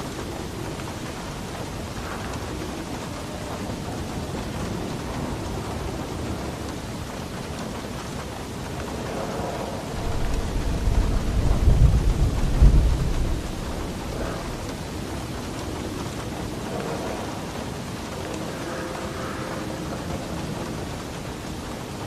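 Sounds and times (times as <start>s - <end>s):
heavy rain: 0.0s - 22.0s
thunder rolling: 0.0s - 22.0s.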